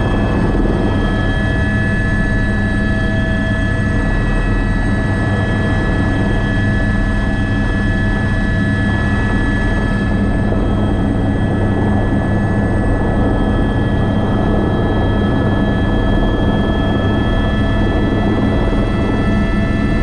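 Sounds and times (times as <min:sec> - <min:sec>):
helicopter rotor drone: 0:00.0 - 0:20.0
helicopter turbine whine: 0:00.0 - 0:20.0.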